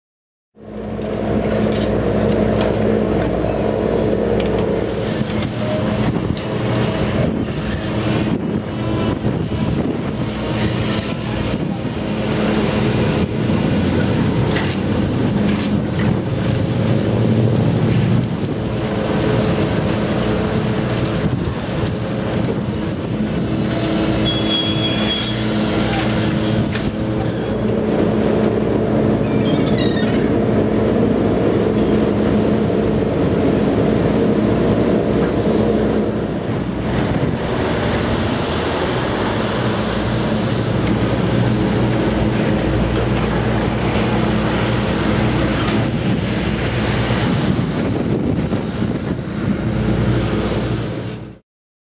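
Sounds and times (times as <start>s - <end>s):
diesel engines droning: 0.6s - 51.3s
deck machinery: 0.6s - 51.4s
wind on microphone: 0.8s - 51.4s.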